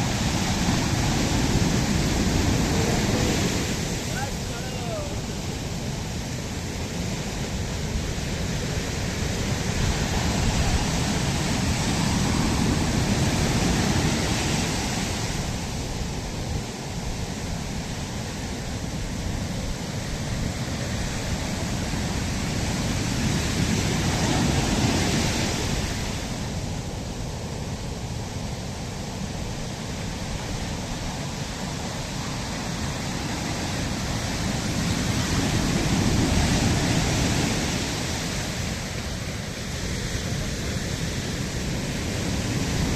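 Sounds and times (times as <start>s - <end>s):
sea waves washing on shore: 0.0s - 42.9s.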